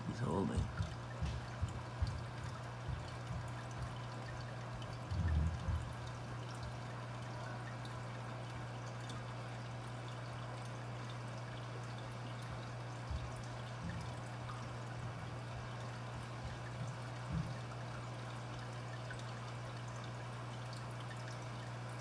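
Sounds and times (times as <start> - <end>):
low even hum: 0.0 - 22.0
water trickling into tank: 0.0 - 22.0.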